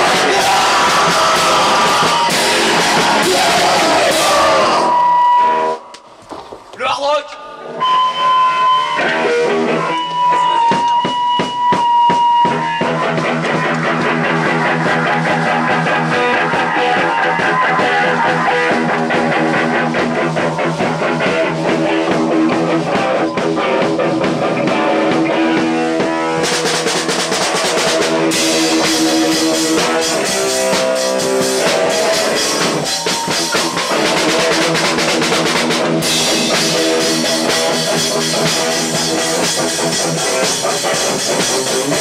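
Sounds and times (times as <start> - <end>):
drum kit: 0.0 - 5.2, 9.0 - 42.0
bass guitar: 0.0 - 5.8, 7.4 - 42.0
electric guitar through amplifier: 7.4 - 42.0.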